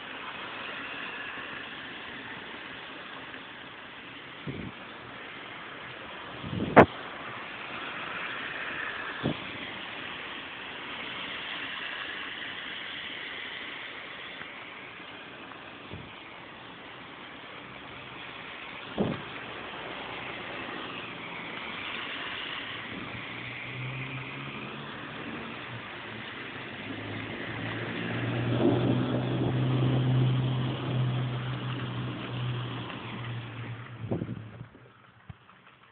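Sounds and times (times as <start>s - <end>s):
heavy rain: 0.0s - 35.9s
car engine passing: 4.4s - 16.3s, 17.2s - 35.8s.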